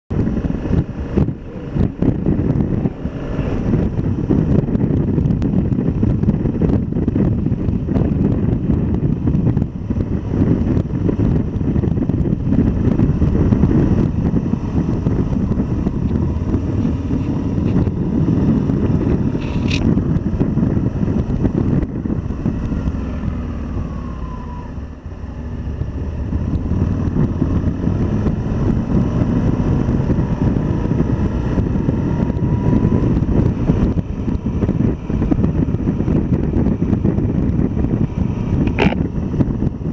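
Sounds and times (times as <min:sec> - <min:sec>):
motorcycle engine: 0:00.1 - 0:39.9
wind buffeting microphone: 0:00.1 - 0:39.9.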